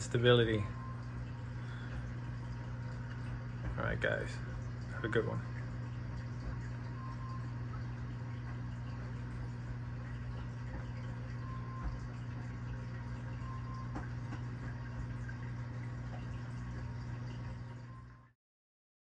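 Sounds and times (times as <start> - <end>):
bubbling trickling water: 0.0 - 18.3
electrical pump hum: 0.0 - 18.4.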